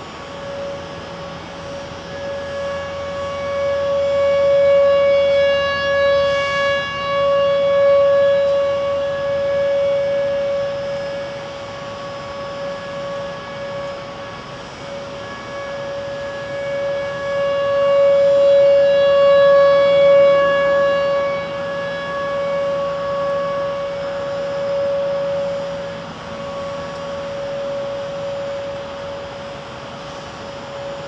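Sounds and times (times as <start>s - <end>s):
warning siren steady tone: 0.0s - 31.0s.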